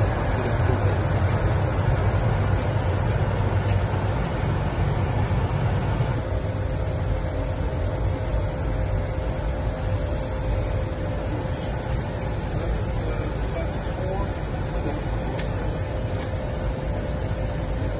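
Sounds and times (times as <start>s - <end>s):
faint steady hum: 0.0s - 17.9s
low rumble of airflow and engines: 0.0s - 17.9s.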